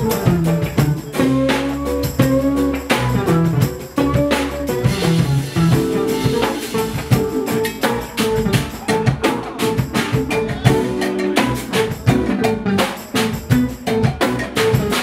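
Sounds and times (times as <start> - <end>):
electric bass: 0.0 - 15.0
jazz fusion band playing: 0.0 - 15.0.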